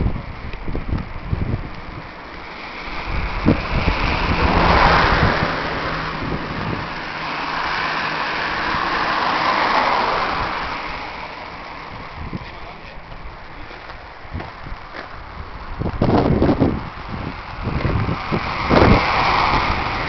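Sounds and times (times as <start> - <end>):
broad rushing noise: 0.0 - 20.0
motorcycle engine humming: 0.0 - 20.0.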